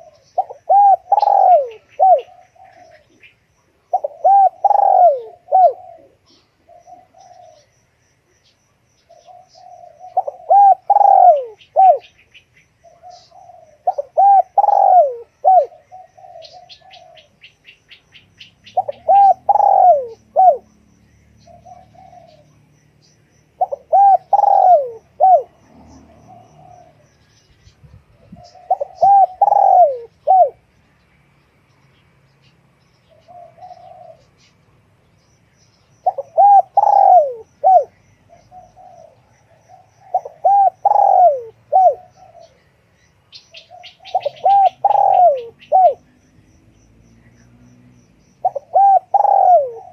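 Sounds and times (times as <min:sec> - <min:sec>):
dove cooing: 0:00.0 - 0:07.7, 0:09.1 - 0:18.0, 0:18.6 - 0:20.7, 0:21.4 - 0:22.7, 0:23.6 - 0:30.7, 0:33.0 - 0:34.6, 0:36.0 - 0:46.2, 0:48.4 - 0:49.9.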